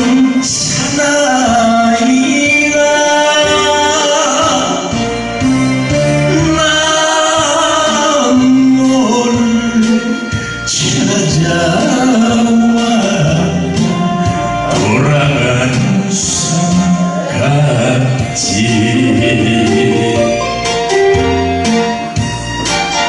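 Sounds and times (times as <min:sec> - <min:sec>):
man singing into microphone: 0:00.0 - 0:21.2
instrumental accompaniment: 0:00.0 - 0:23.0.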